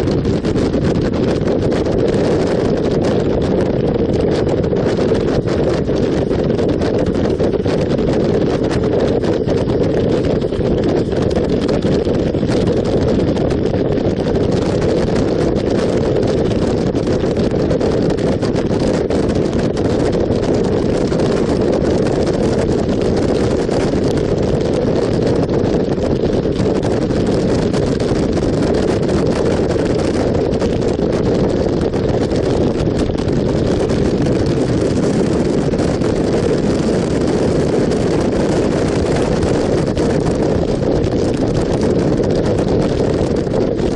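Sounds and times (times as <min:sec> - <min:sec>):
wind rush on microphone: 0:00.0 - 0:43.9.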